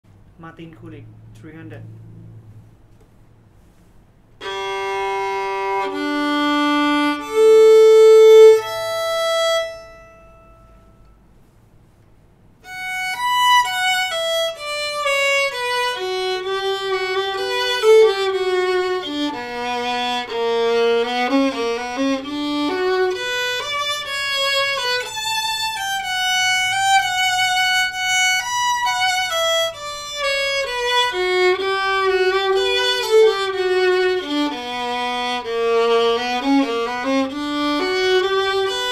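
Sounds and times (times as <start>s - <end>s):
bowed violin: 4.4s - 11.1s, 12.6s - 38.9s.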